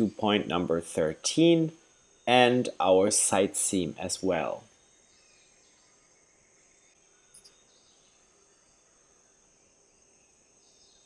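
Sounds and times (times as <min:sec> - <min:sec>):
steady high-pitched hiss: 0:00.0 - 0:11.0.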